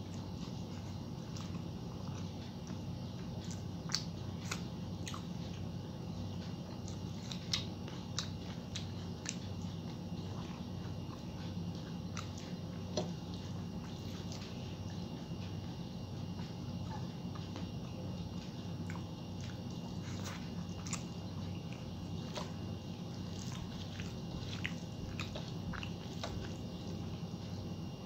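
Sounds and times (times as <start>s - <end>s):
low hum: 0.0s - 28.0s
person chewing food: 0.0s - 28.0s.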